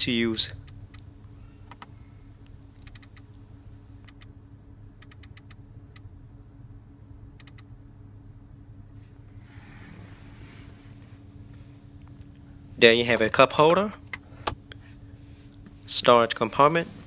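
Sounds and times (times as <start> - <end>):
low cabin hum: 0.0 - 17.0.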